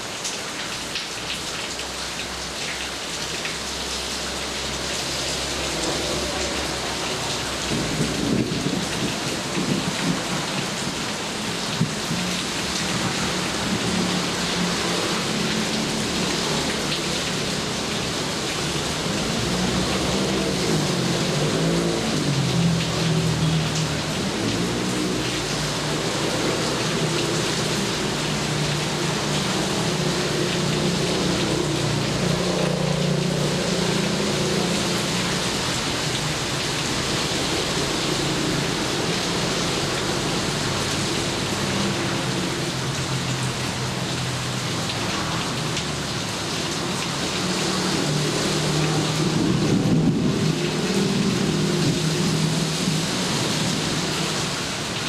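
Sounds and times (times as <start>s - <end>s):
steady rain pouring: 0.0s - 55.0s.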